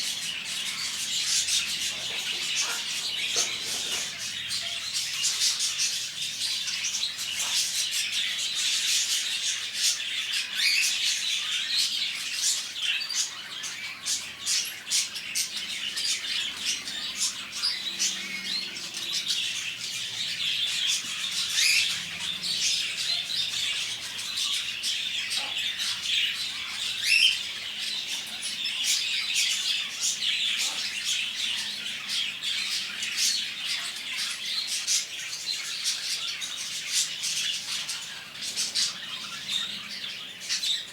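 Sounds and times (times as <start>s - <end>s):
small birds chirping and squawking: 0.0s - 40.9s.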